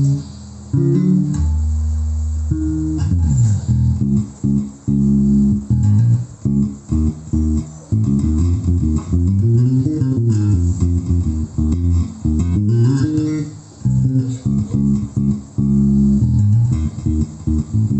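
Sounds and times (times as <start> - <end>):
electric bass plucked notes: 0.0 - 17.9.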